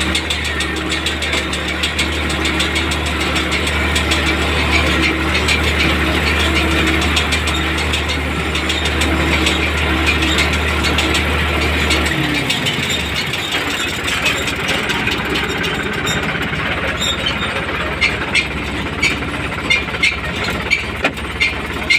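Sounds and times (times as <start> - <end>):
baler working: 0.0 - 21.9
tractor engine running: 0.0 - 21.9.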